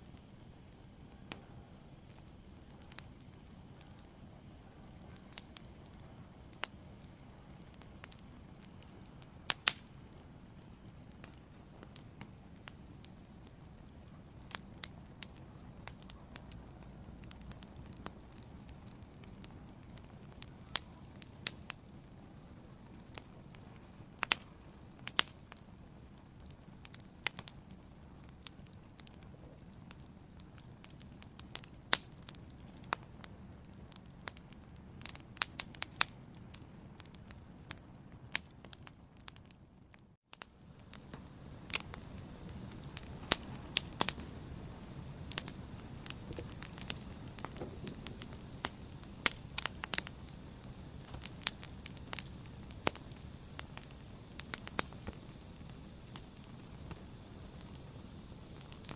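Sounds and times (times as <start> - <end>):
rush of flames: 0.0 - 39.6, 40.4 - 58.9
fire crackling and popping: 0.0 - 58.9.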